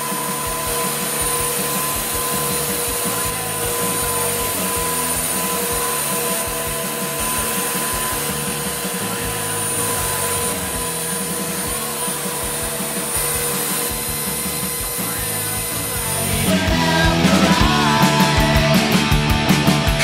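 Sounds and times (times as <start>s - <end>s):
electric chainsaw cutting wood: 0.0s - 20.0s.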